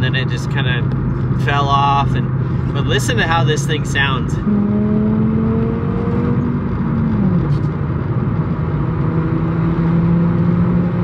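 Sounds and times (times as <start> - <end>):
car engine revving: 2.1 - 11.0.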